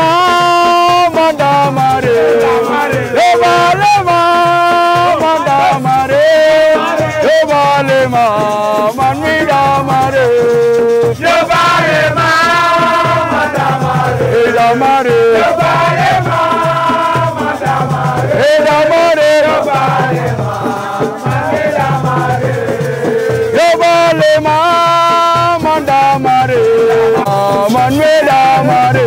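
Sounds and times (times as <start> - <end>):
music with rhythmic beat: 0.0 - 29.0
person singing in chanting style: 0.0 - 29.0.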